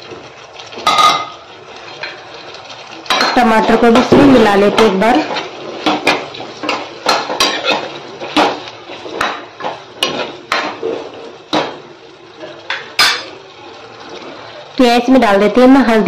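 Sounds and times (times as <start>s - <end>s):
vegetables being stirred and tossed: 0.0s - 16.0s.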